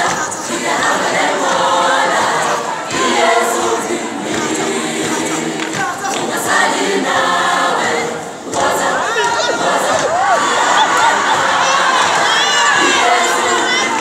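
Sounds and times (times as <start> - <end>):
choir singing a cappella: 0.0 - 14.0.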